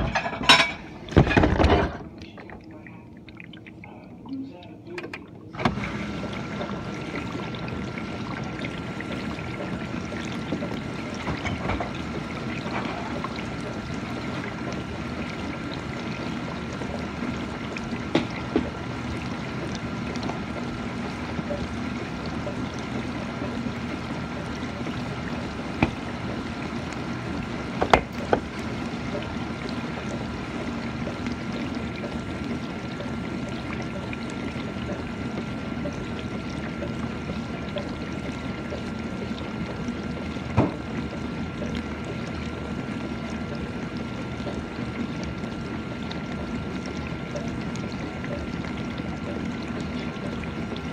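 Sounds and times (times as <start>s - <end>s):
high motor hum: 0.0s - 50.9s
water rushing in dishwasher: 0.0s - 50.9s.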